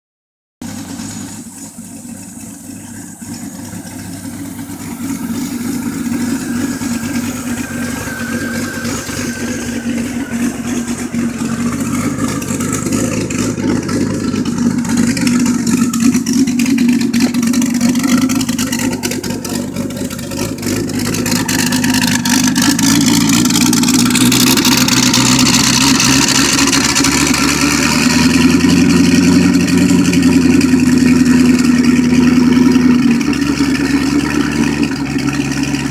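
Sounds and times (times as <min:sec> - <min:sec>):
car engine idling: 0:00.6 - 0:35.9.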